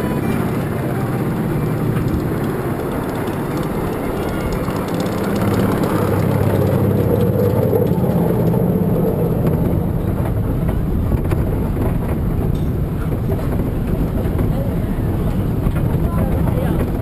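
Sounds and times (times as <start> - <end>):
roller coaster wheels rumbling: 0.0 - 17.0.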